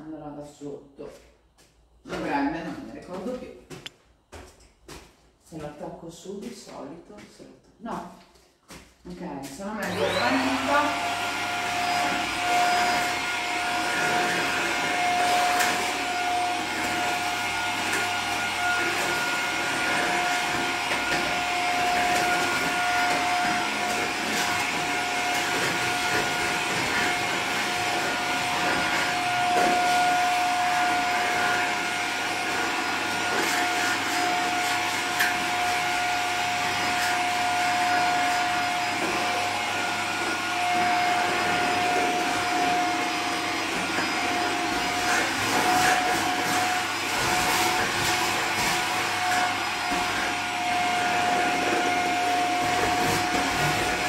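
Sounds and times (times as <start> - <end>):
vacuum cleaner whining: 9.5 - 54.0.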